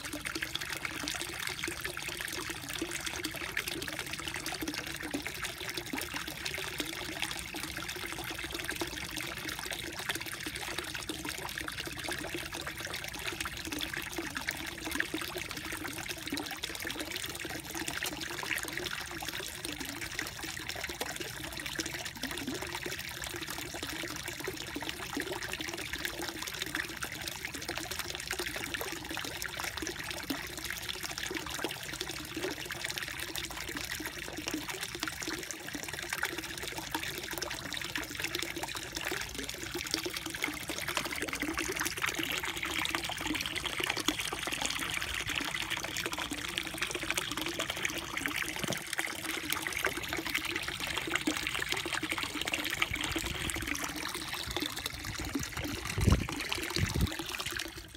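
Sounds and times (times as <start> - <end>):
water trickling and bubbling: 0.0 - 57.9.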